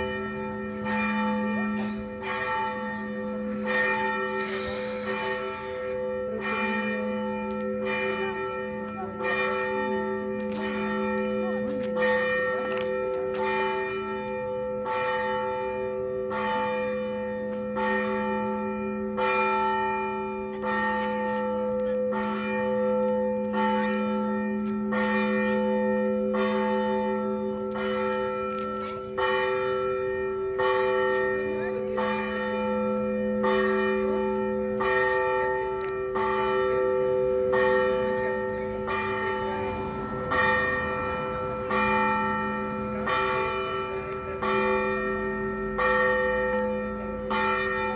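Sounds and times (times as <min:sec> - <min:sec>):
large bells humming: 0:00.0 - 0:47.9
small church bells ringing: 0:00.0 - 0:47.9.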